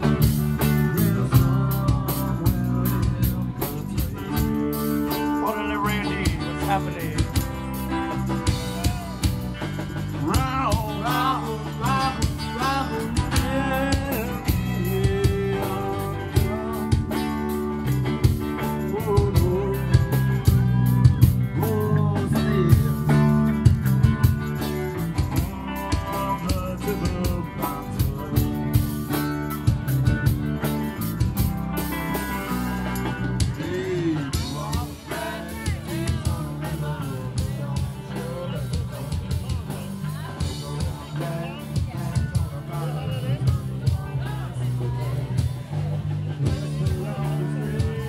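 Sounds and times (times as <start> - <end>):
acoustic guitar: 0.0 - 48.0
steady drum beat: 0.0 - 48.0.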